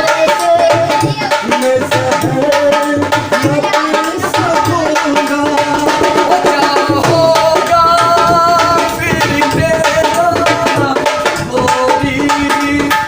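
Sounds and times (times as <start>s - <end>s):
dholak drumming: 0.0s - 13.0s.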